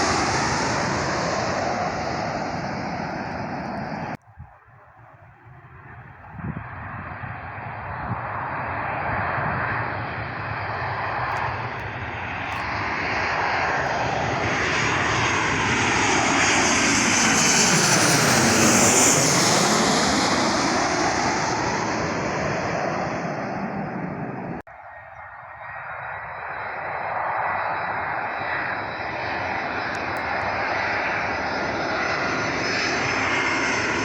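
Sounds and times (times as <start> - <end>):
airplane flying overhead: 0.0 - 34.0.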